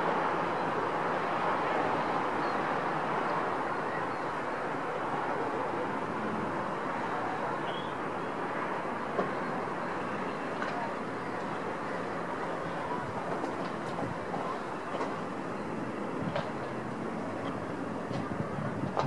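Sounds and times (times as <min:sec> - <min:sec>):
distant city traffic hiss: 0:00.0 - 0:19.0.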